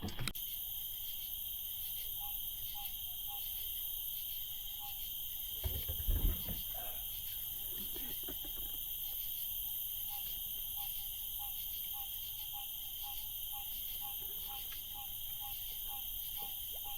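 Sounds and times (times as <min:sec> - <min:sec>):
crickets chirping: 0:00.1 - 0:16.9.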